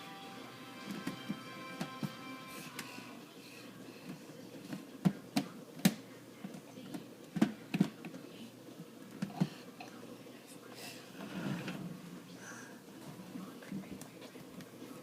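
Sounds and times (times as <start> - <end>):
faint room noise: 0.0 - 15.0.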